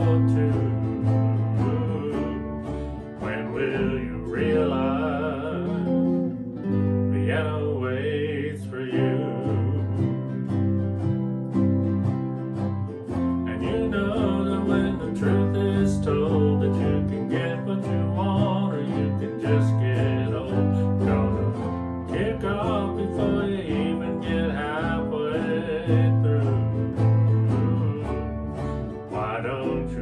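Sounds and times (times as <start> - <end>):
plucked bass line: 0.0 - 30.0
strummed ukuleles: 0.0 - 30.0.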